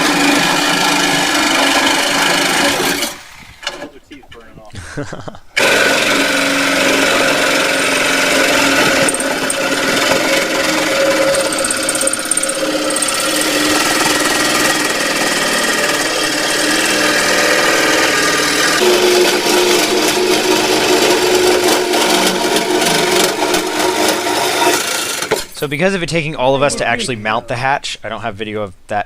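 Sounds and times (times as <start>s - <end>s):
power saw cutting: 0.0s - 4.0s, 5.6s - 25.7s.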